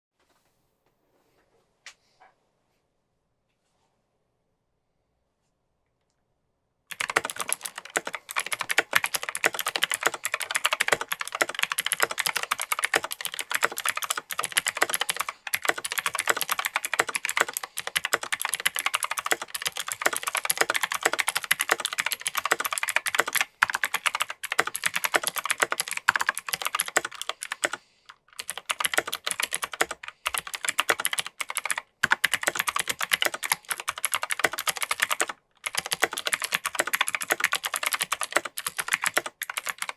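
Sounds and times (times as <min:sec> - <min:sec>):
fast typing on clicky keyboard: 0:06.9 - 0:39.9.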